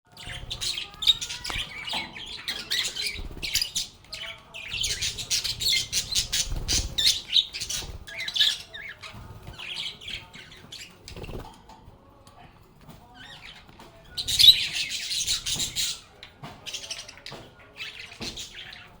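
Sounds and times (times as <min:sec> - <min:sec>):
lovebirds chirping and squawking: 0:00.1 - 0:19.0.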